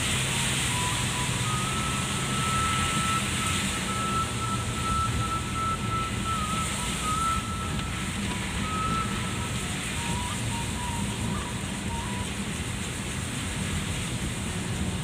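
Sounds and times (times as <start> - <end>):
engine and tyre rumble: 0.0 - 15.0
rain and tyre spray hiss: 0.0 - 15.0.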